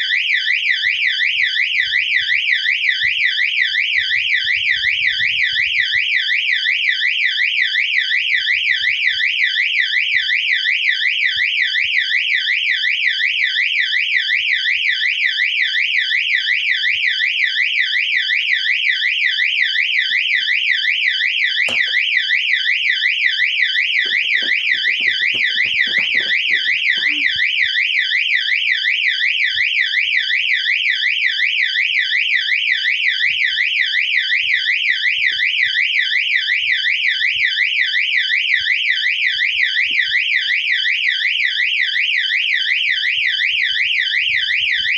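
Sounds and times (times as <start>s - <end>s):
warbling fire alarm siren: 0.0s - 44.9s.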